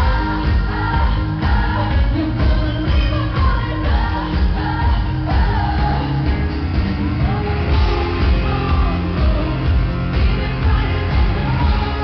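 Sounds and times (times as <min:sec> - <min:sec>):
woman singing into microphone: 0:00.0 - 0:06.4, 0:07.2 - 0:12.0
loud drums and bass: 0:00.0 - 0:12.0
pop band playing: 0:00.0 - 0:12.0.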